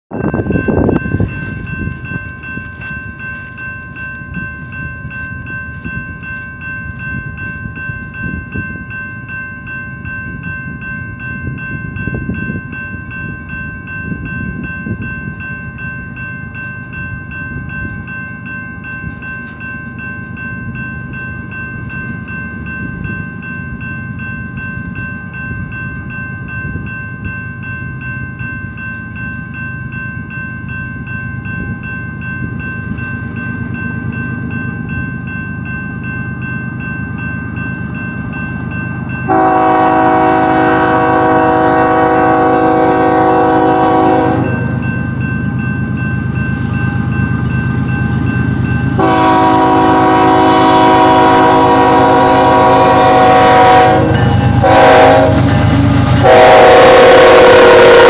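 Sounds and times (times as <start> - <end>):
railroad crossing bell ringing: 0.1 - 58.0.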